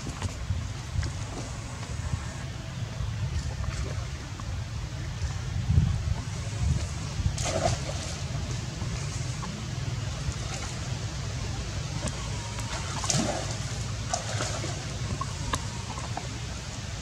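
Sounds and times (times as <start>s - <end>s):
steady background noise: 0.0s - 17.0s
water splashing and sloshing: 0.0s - 17.0s.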